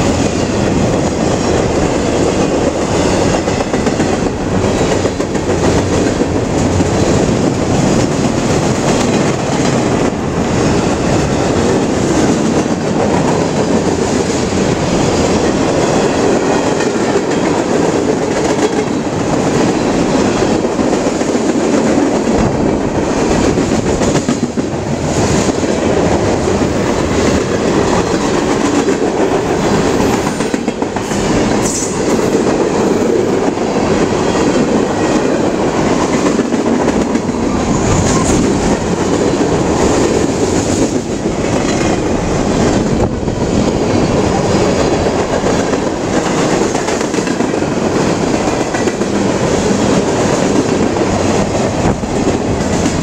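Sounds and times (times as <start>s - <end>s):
clickety-clack of rail joints: 0.0s - 53.0s
train wheels rumbling on rail: 0.0s - 53.0s.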